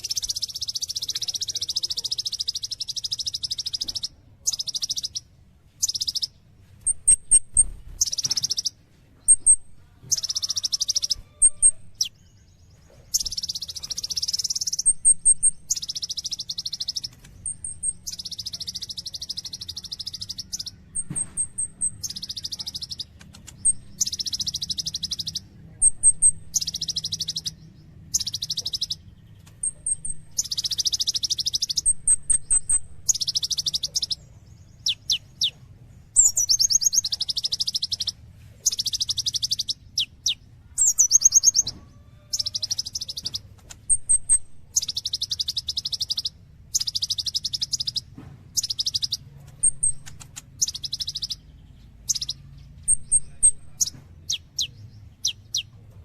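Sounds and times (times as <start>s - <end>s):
sunbird buzzy trilled song: 0.0s - 55.7s.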